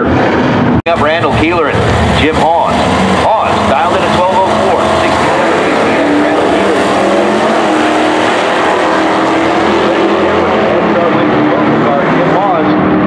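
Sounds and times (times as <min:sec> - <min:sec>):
cars accelerating at full throttle: 0:00.0 - 0:13.0.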